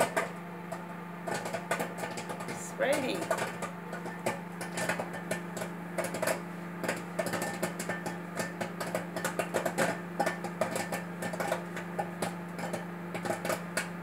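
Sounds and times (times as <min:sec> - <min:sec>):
microwave oven humming: 0:00.0 - 0:14.0
popcorn popping: 0:00.0 - 0:14.0.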